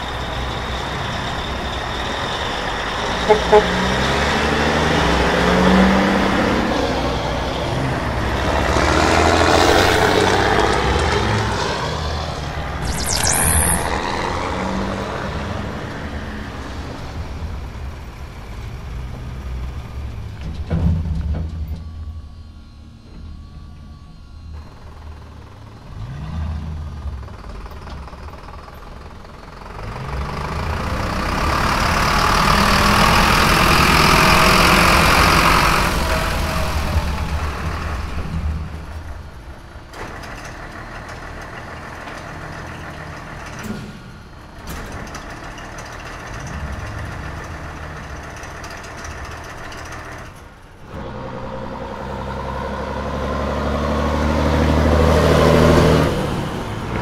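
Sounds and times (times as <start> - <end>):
truck engine revving: 0.0 - 20.4, 24.5 - 57.0.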